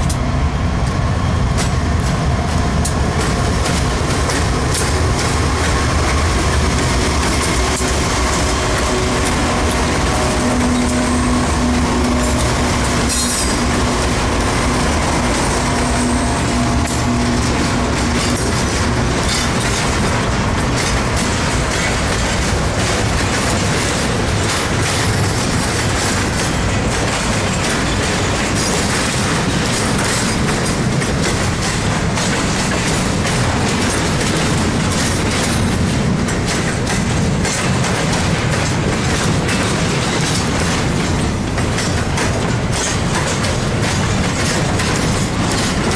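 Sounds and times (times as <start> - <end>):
diesel locomotive engine hum: 0.0 - 45.9
train wheels clacking over rail joints: 0.0 - 45.9.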